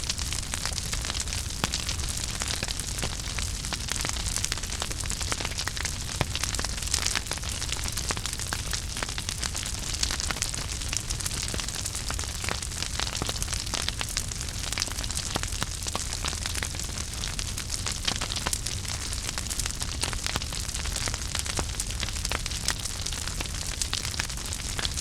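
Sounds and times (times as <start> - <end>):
fire low rumble and hiss: 0.0 - 25.0
wood fire crackling and popping: 0.0 - 25.0.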